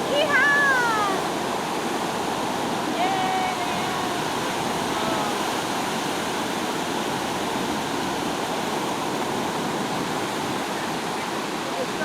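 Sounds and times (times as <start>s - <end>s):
ocean surf washing onto beach: 0.0s - 12.0s.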